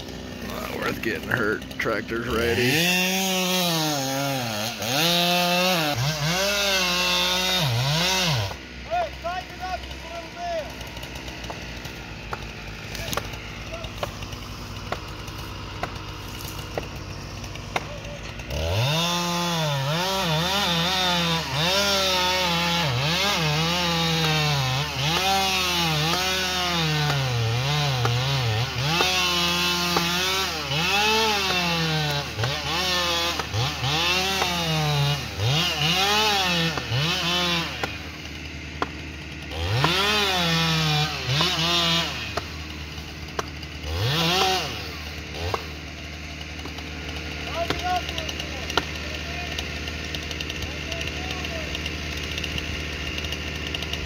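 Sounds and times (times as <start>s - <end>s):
chainsaw cutting tree trunk: 0.0s - 54.0s.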